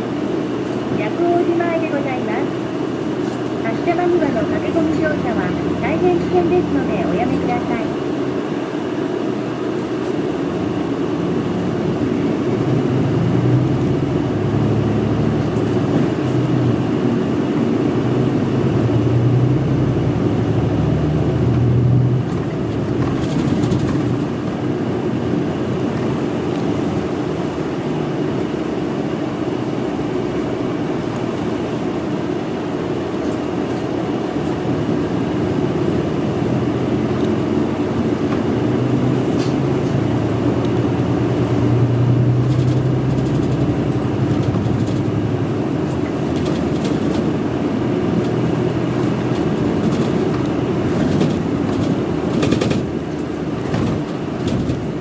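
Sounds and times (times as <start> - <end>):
bus engine: 0.0 - 55.0
road noise: 0.0 - 55.0.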